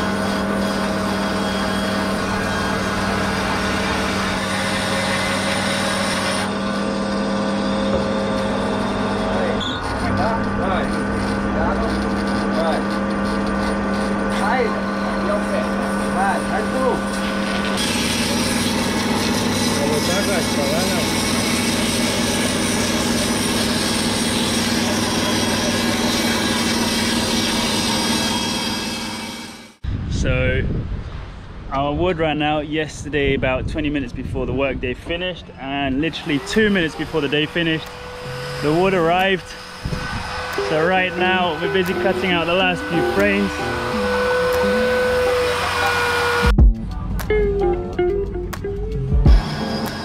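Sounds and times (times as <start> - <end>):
band saw humming: 0.0 - 29.8, 35.6 - 50.0
saw cutting timber: 0.0 - 29.8, 35.6 - 46.6, 49.3 - 50.0.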